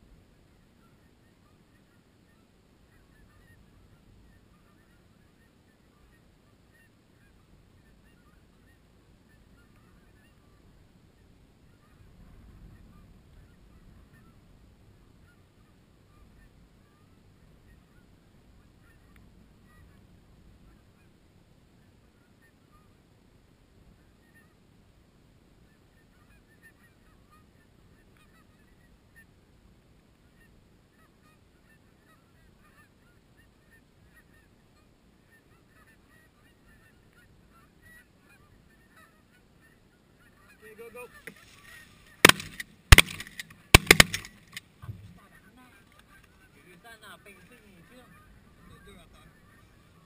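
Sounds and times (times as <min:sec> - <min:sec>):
distant geese honking: 0:00.0 - 0:21.2, 0:25.6 - 0:29.4, 0:30.2 - 0:50.0.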